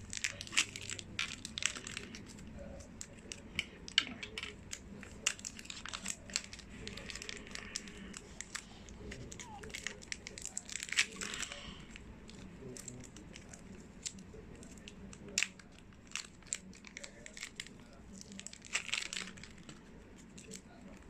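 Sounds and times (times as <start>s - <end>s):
plastic packets crinkling and tearing: 0.0s - 21.0s.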